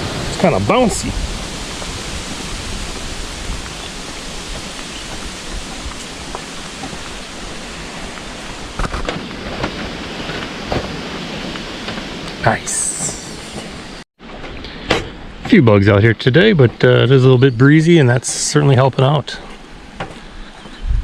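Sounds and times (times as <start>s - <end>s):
wind buffeting microphone: 0.0s - 16.9s, 19.4s - 21.0s.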